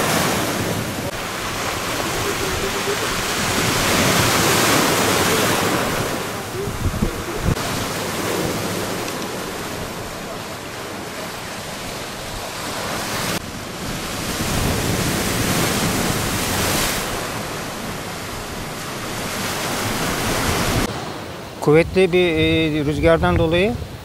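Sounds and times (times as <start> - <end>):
surf breaking on shore: 0.0 - 24.0
wind buffeting microphone: 0.0 - 24.0.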